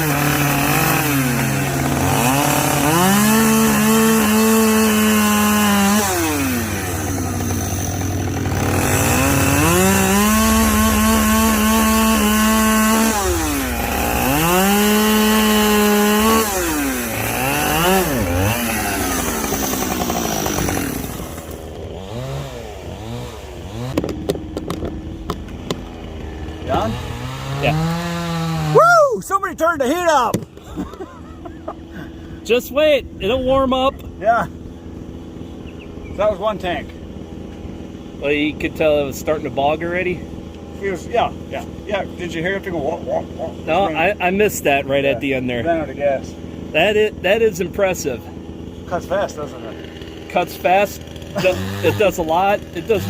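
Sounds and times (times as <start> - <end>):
chainsaw revving and cutting: 0.0 - 28.8, 29.6 - 32.6, 36.2 - 53.0.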